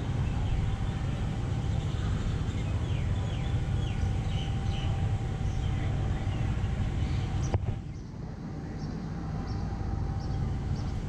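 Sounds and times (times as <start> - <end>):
boat engine rumbling: 0.0 - 11.0
bird chirping: 0.2 - 11.0.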